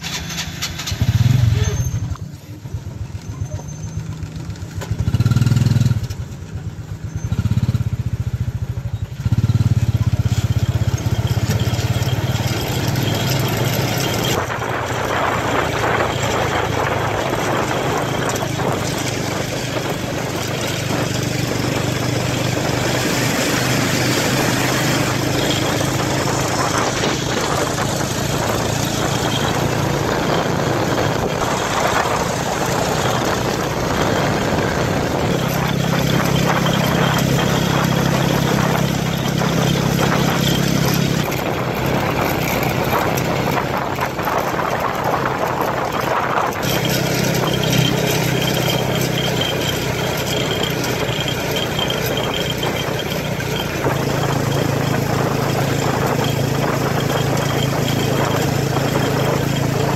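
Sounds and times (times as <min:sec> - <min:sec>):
small motorbike engine: 0:00.0 - 0:59.9
wind and road noise: 0:00.0 - 0:59.9.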